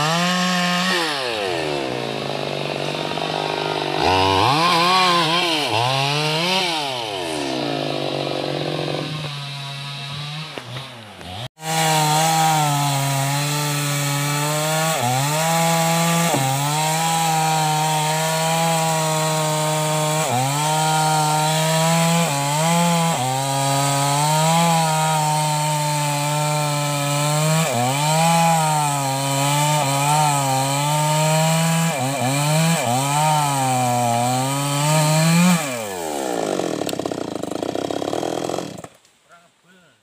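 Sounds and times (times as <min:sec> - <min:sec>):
chainsaw cutting log: 0:00.0 - 0:39.1.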